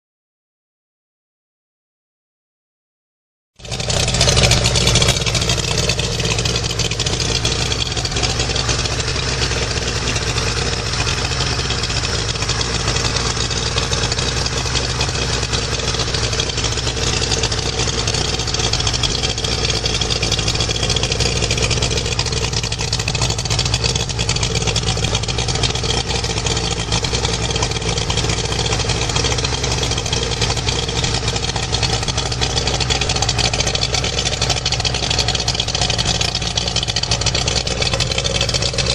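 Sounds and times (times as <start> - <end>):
outboard motor idling: 3.6 - 38.9.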